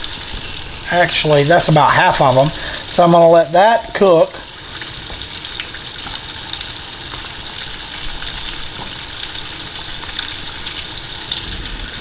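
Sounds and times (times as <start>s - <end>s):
shrimp deep-frying with crackles: 0.0s - 12.0s.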